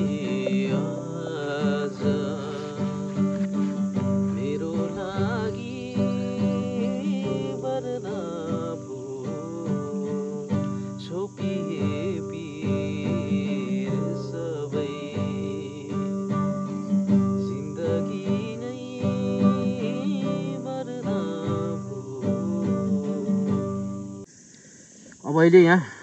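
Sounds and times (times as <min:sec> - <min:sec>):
man singing: 0:00.0 - 0:23.9
classical guitar strummed chords: 0:00.0 - 0:24.3.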